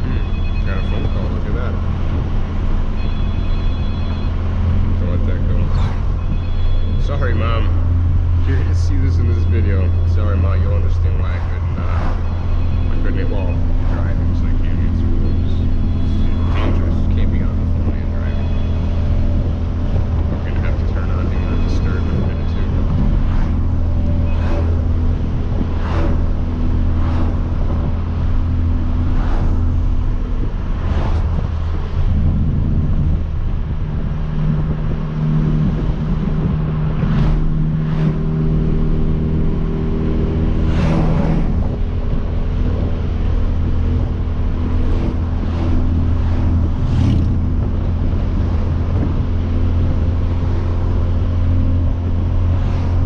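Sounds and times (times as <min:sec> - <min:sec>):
car engine droning: 0:00.0 - 0:53.0.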